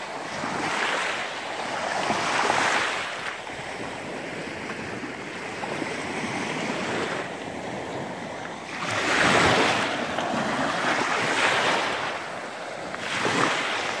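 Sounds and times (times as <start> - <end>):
sea waves washing onto shore: 0.0 - 14.0
wind on microphone: 0.0 - 14.0.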